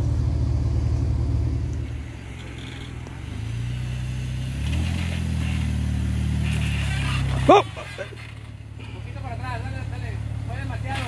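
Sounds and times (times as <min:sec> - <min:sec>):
car engine revving under load: 0:00.0 - 0:11.0.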